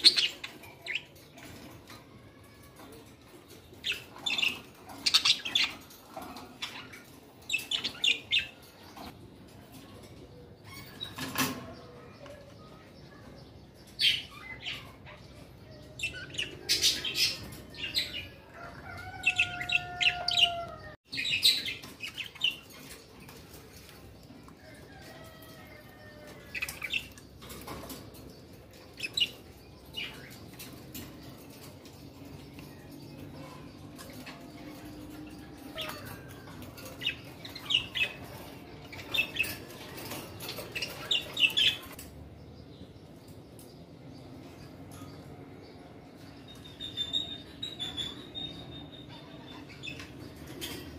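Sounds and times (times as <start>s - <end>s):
caged birds chirping: 0.0s - 50.9s.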